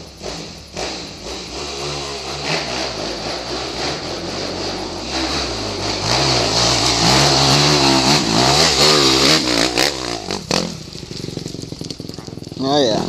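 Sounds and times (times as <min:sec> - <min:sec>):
dirt bike engine revving: 0:00.0 - 0:13.0
rush and rattle of riding: 0:00.0 - 0:13.0.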